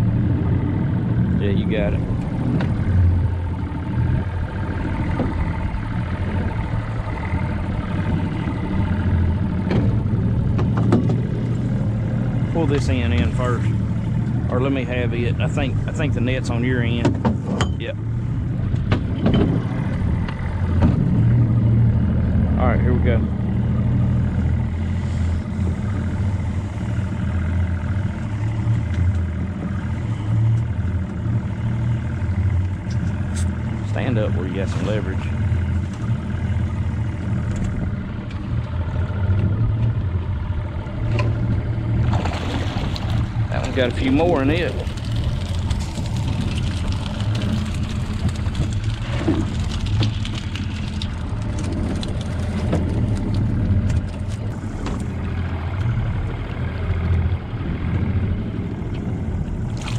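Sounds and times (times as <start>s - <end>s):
outboard motor idling: 0.0s - 59.9s.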